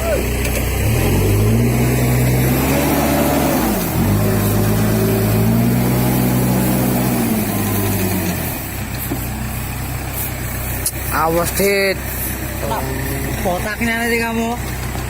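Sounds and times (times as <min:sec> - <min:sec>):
vehicle engine running hard: 0:00.0 - 0:15.0.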